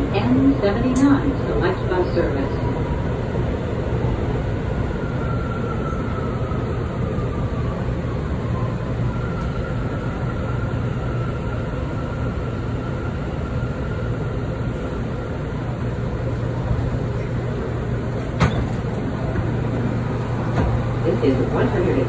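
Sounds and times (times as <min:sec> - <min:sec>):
subway car rumble and hum: 0:00.0 - 0:22.0.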